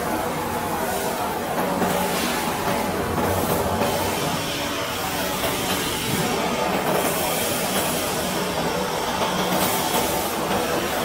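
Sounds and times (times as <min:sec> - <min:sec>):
machine whirring: 0:00.0 - 0:11.0.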